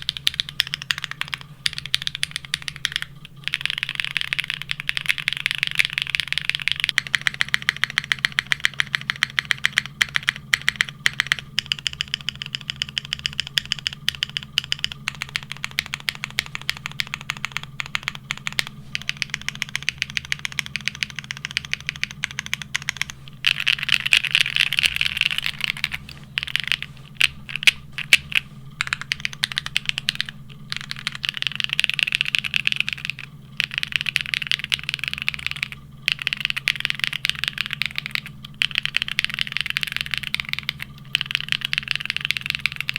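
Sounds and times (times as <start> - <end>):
faint low hum: 0.0 - 42.9
mechanical keyboard typing: 0.0 - 42.9.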